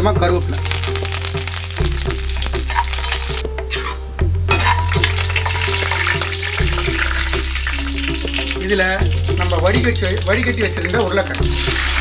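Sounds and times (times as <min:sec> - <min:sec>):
background music with bass: 0:00.0 - 0:12.0
spices sizzling in hot oil: 0:00.0 - 0:12.0.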